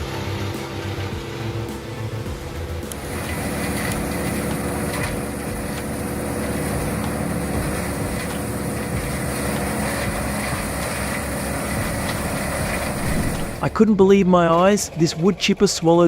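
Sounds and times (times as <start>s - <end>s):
wood chipper engine running: 0.0s - 16.0s.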